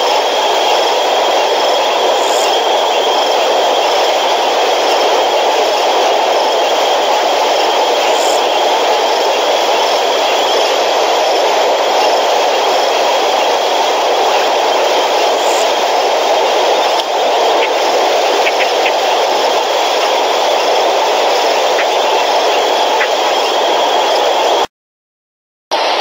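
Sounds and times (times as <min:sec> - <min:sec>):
floodwater rushing: 0:00.0 - 0:24.6
faint high whine: 0:00.0 - 0:24.7.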